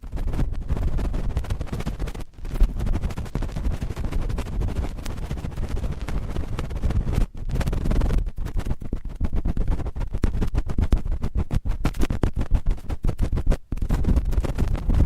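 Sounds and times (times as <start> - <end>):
cotton swab scratching microphone: 0.0 - 15.0.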